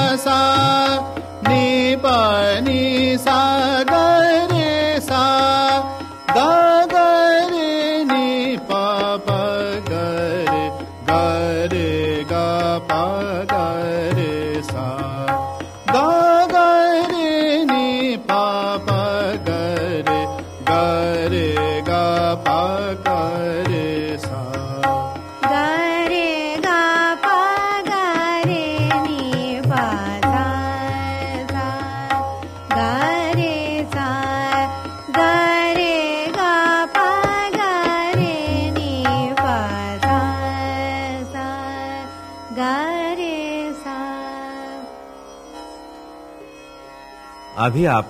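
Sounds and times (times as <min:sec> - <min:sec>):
tabla: 0:00.0 - 0:46.0, 0:46.6 - 0:48.0.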